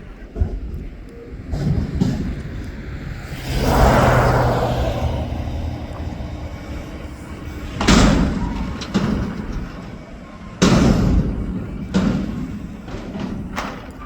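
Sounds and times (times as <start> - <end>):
garbage truck engine hum: 0.0 - 14.0
dumpster banging: 0.4 - 14.0.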